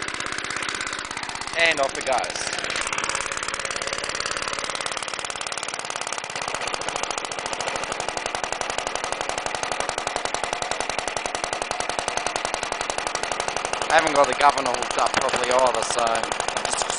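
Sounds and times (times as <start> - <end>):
two-stroke engine running: 0.0 - 16.9.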